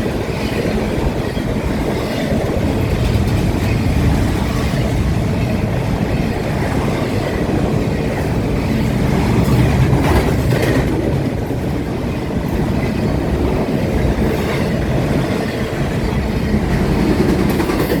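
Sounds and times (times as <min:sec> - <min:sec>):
train rumbling past: 0:00.0 - 0:18.0
wheels clattering on rail joints: 0:00.0 - 0:18.0.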